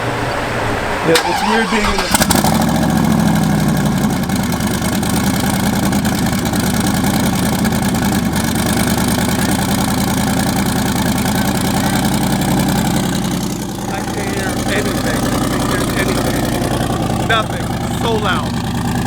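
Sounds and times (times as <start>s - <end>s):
car engine idling loudly: 0.0s - 19.0s.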